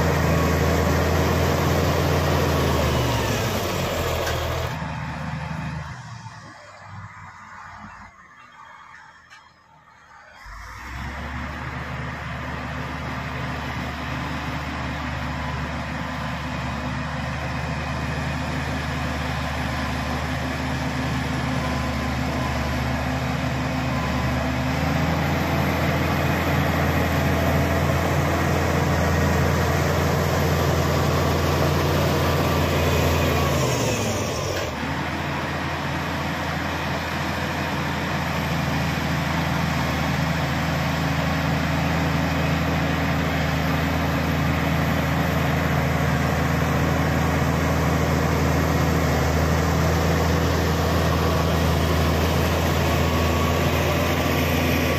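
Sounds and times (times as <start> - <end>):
bulldozer diesel engine revving: 0.0 - 6.6, 10.3 - 54.9.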